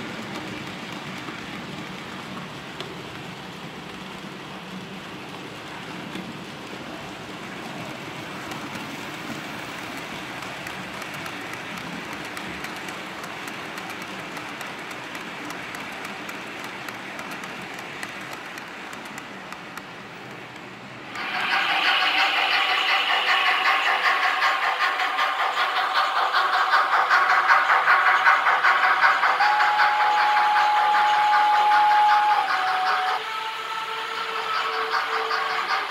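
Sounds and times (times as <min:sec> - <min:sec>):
model train rolling on track: 0:00.0 - 0:35.9.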